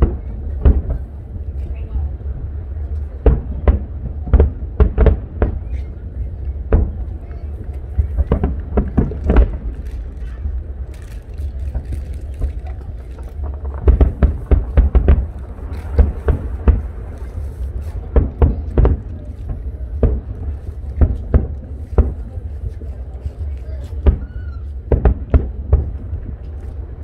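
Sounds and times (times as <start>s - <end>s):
fireworks booming: 0.0s - 27.0s.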